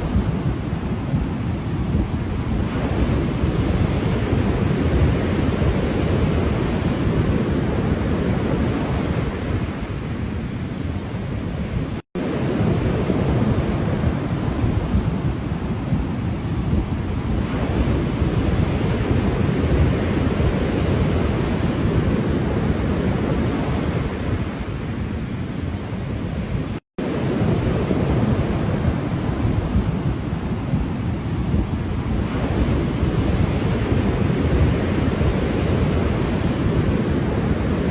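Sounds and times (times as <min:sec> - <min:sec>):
ocean waves washing onto shore: 0:00.0 - 0:37.9.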